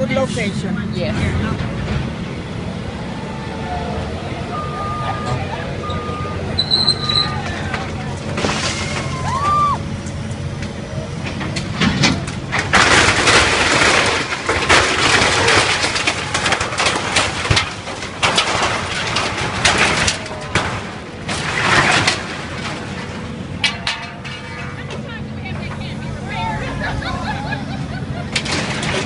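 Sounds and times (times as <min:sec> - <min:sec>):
machinery engine hum: 0:00.0 - 0:29.0
debris crashing and crunching: 0:04.5 - 0:29.0.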